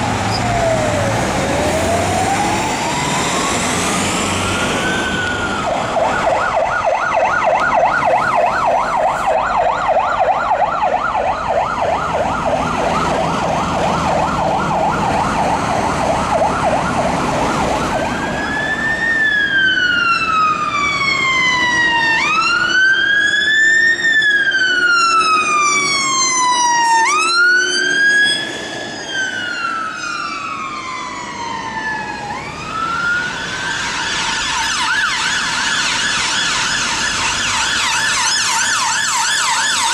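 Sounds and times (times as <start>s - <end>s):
fire engine siren: 0.0s - 39.9s.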